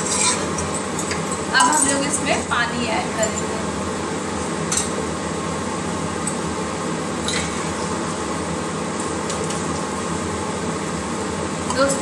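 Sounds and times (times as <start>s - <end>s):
appliance humming: 0.0s - 12.0s.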